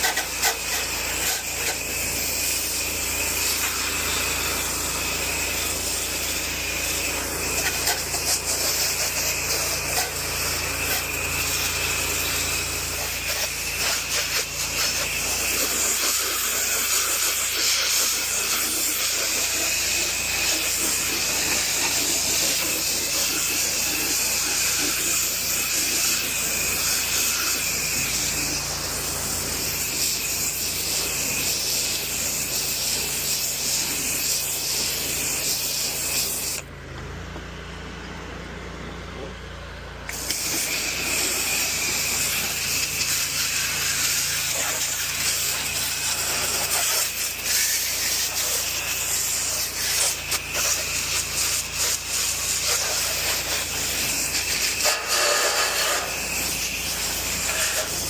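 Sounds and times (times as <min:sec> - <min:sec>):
high-pressure water jet hissing: 0:00.0 - 0:36.7, 0:40.1 - 0:58.0
pressure washer machine hum: 0:00.0 - 0:58.0.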